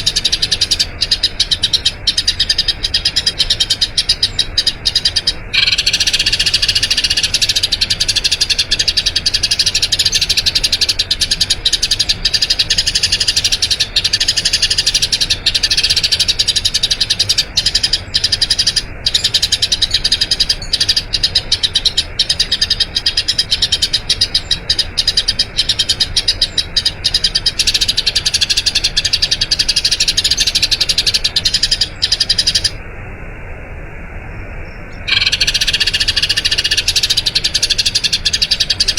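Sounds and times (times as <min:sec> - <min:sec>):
sparrow chirping: 0:00.0 - 0:32.8, 0:35.0 - 0:38.9.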